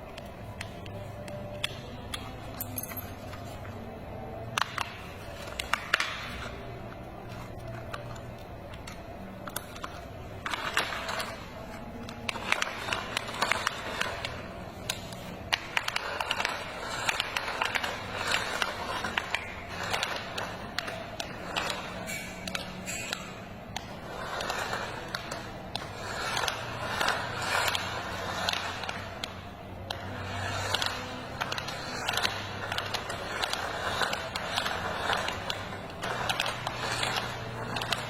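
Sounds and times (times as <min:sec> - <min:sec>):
plastic toy clicks and scrapes: 0:00.0 - 0:38.0.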